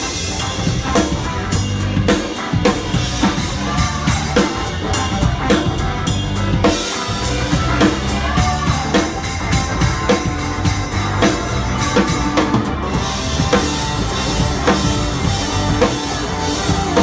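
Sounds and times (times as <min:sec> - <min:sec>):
bass notes: 0:00.0 - 0:17.0
live rock band playing: 0:00.0 - 0:17.0.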